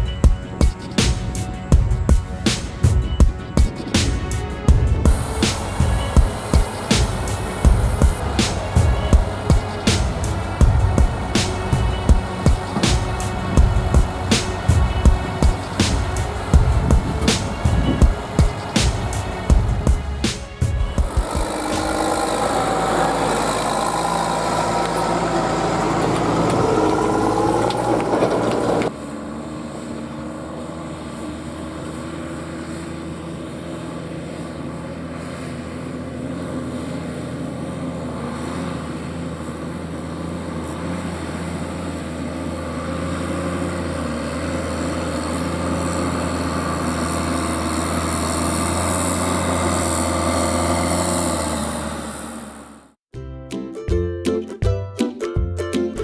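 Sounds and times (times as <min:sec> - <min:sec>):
harvester engine droning: 0:00.0 - 0:53.0.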